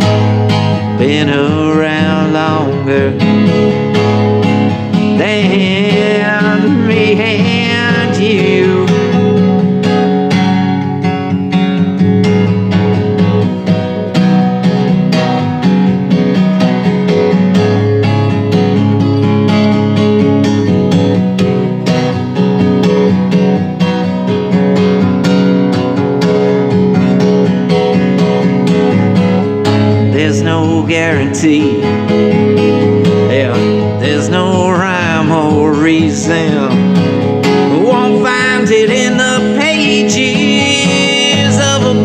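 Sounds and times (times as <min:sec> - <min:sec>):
acoustic guitar strummed and picked: 0:00.0 - 0:42.0.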